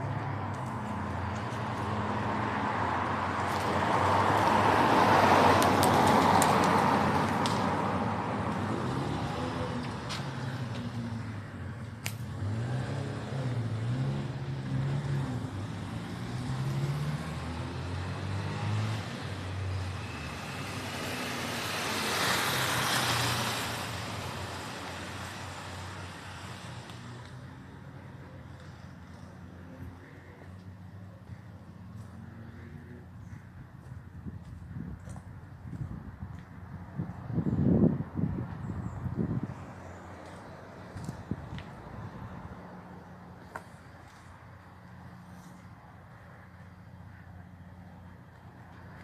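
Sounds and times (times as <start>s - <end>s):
cars passing: 0.0s - 49.0s.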